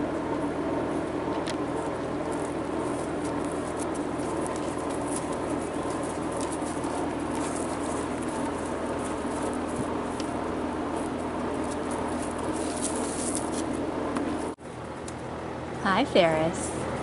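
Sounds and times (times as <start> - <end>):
steady background noise: 0.0 - 17.0
puppy paws pattering and scuffling: 1.0 - 15.2.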